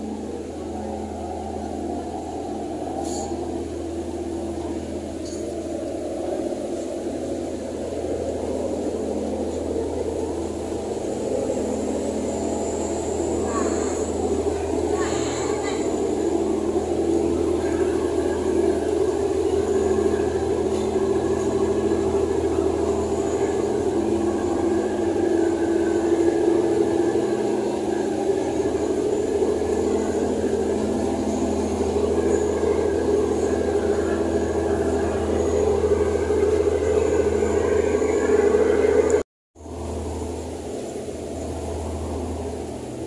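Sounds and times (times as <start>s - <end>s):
ferry engines droning: 0.0s - 43.0s.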